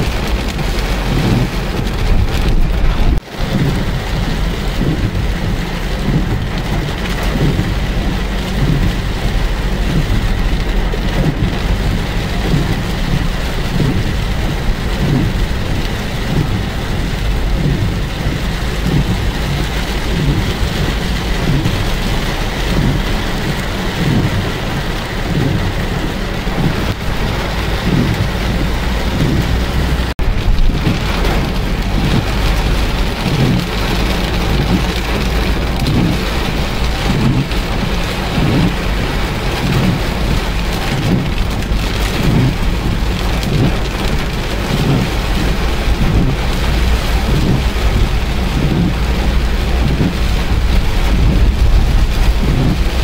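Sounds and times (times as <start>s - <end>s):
low rumble: 0.0s - 53.0s.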